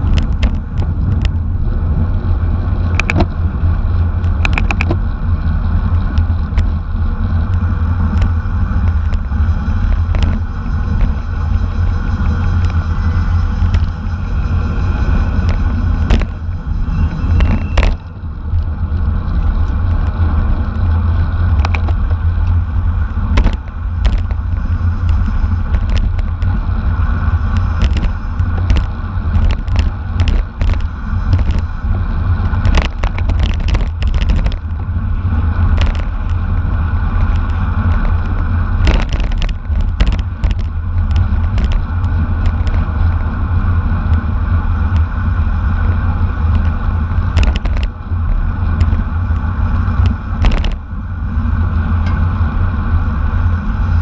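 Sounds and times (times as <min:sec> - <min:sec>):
bicycle clicks and rattles: 0:00.0 - 0:54.0
wind rushing over microphone: 0:00.0 - 0:54.0.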